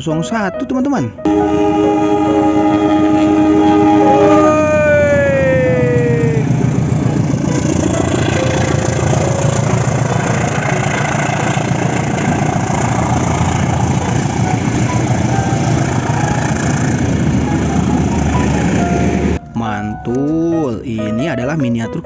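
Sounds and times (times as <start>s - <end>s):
diesel locomotive engine rumbling: 1.3s - 19.5s.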